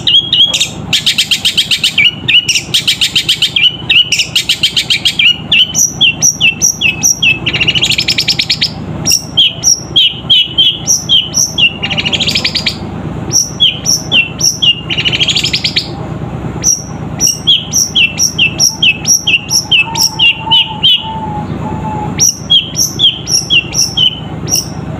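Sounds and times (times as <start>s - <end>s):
bird harsh chattering rattle: 0.0s - 15.9s, 16.6s - 24.9s
bird singing sharp high chirps: 0.0s - 16.0s, 16.6s - 24.9s.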